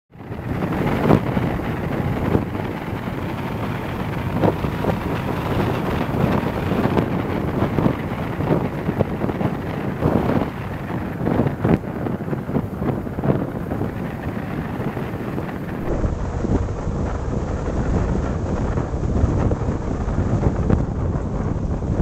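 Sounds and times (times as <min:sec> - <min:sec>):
wind buffeting microphone: 0:00.1 - 0:22.0
car driving rush: 0:00.2 - 0:22.0.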